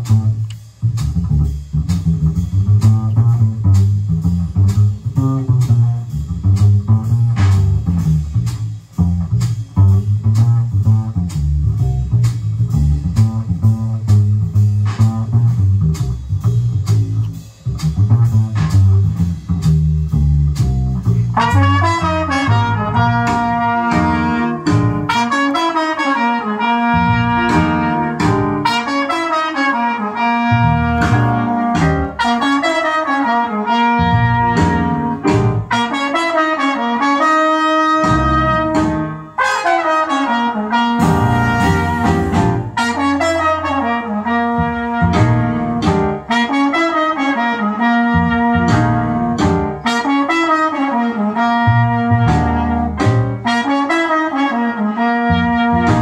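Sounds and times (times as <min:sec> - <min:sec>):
stepping bass: 0:00.0 - 0:39.4, 0:40.0 - 0:54.3, 0:54.9 - 0:56.0
jazz horn lead line: 0:00.0 - 0:56.0.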